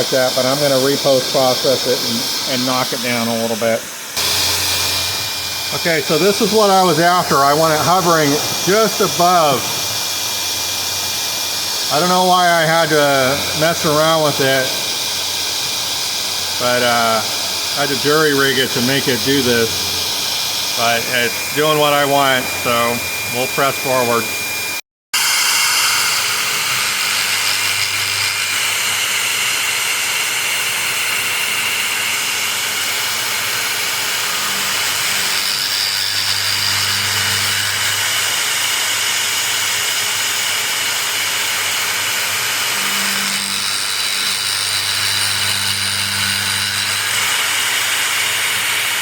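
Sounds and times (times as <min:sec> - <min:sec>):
milling machine cutting with whine: 0:00.0 - 0:49.0.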